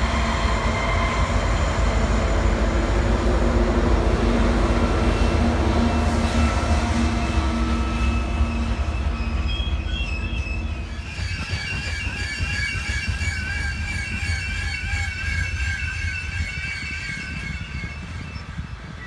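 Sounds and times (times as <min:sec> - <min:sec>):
train wheels squealing: 0:00.0 - 0:03.2, 0:05.0 - 0:19.0
freight train rumbling: 0:00.0 - 0:19.0.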